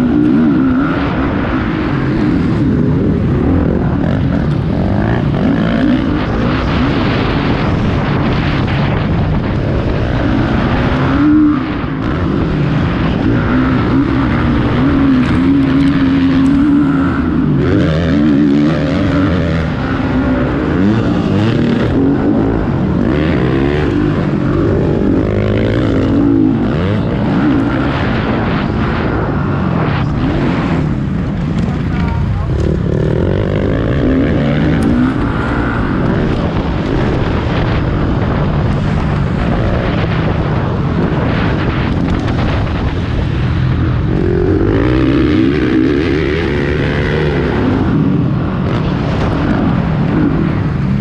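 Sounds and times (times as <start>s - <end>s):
motocross bikes revving: 0.0s - 51.0s.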